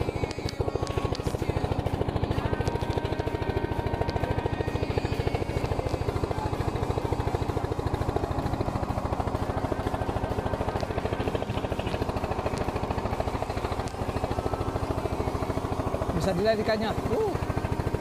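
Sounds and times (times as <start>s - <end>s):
boat engine chugging: 0.0s - 18.0s.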